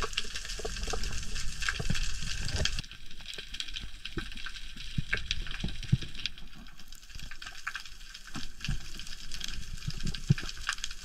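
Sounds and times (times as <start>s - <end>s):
underwater crackling clicks: 0.0s - 11.0s.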